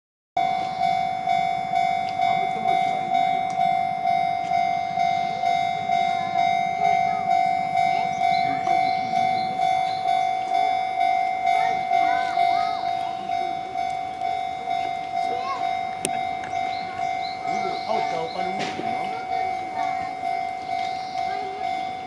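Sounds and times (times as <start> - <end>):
level-crossing warning alarm ringing: 0.4 - 22.0.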